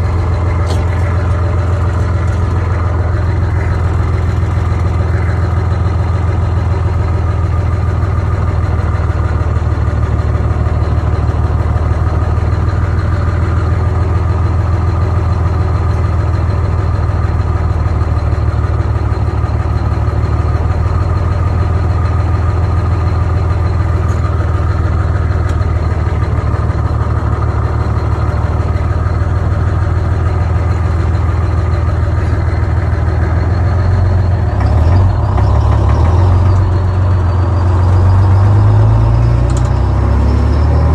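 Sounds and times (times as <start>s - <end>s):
diesel truck engine droning: 0.0s - 40.9s.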